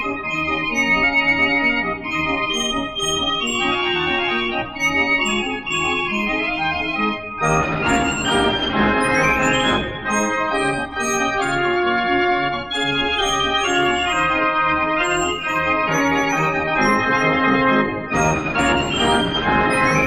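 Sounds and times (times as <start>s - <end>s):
barrel organ playing: 0.0s - 20.0s.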